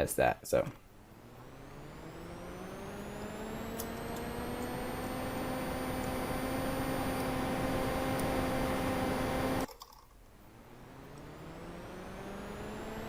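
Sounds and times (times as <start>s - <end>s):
whining tones gliding upward: 0.9s - 9.7s, 10.4s - 13.0s.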